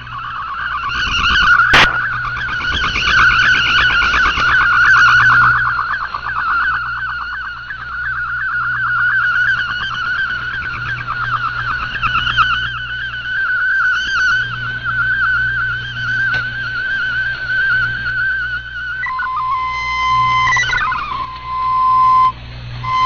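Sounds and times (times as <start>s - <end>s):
steady low hum: 0.0s - 23.0s
warbling digital data tones: 0.0s - 23.0s.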